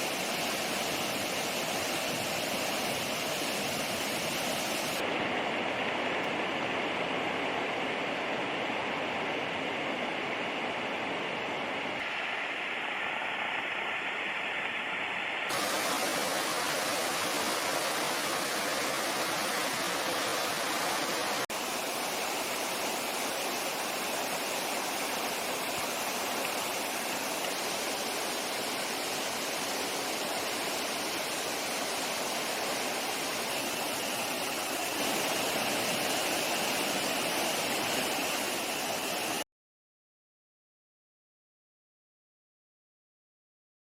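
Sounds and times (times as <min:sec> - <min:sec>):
waterfall rushing: 0:00.0 - 0:39.4.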